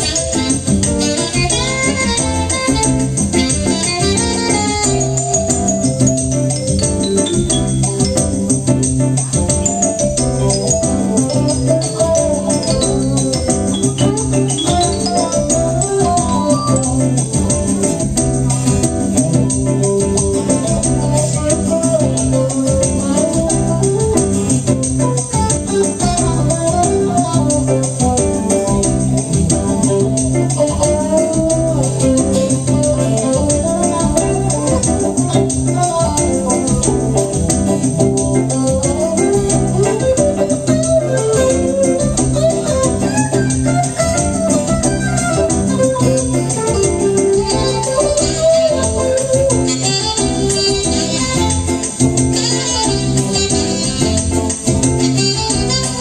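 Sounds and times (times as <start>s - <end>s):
electric and acoustic guitars: 0.0s - 56.0s
live band music: 0.0s - 56.0s
organ-toned keyboard: 0.0s - 56.0s.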